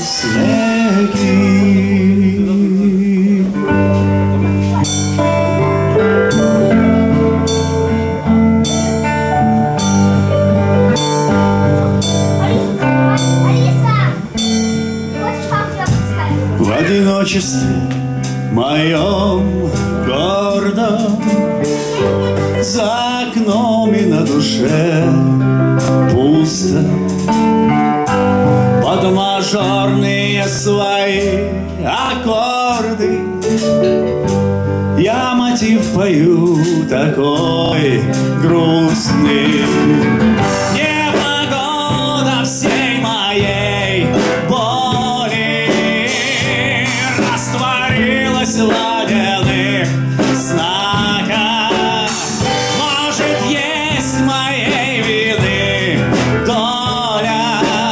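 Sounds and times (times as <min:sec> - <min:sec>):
drum kit: 0:00.0 - 0:57.9
electric guitar: 0:00.0 - 0:57.9
keyboard: 0:00.0 - 0:57.9
sliding melody line: 0:00.0 - 0:57.9.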